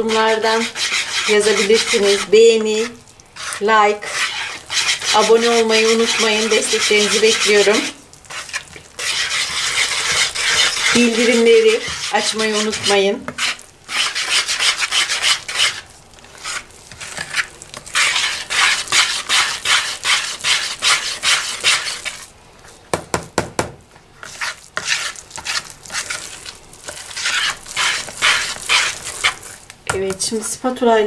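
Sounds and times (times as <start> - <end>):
whisk scraping through dough: 0.0 - 22.8, 24.2 - 30.6.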